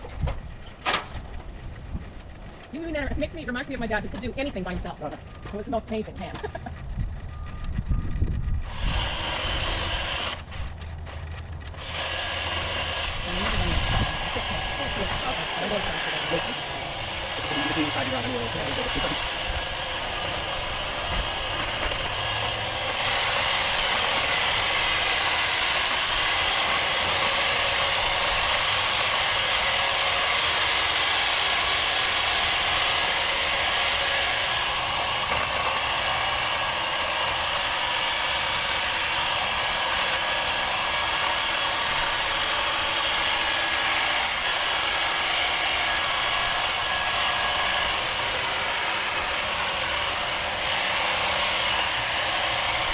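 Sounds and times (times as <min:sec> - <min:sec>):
power tool motor running: 0:08.3 - 0:52.9.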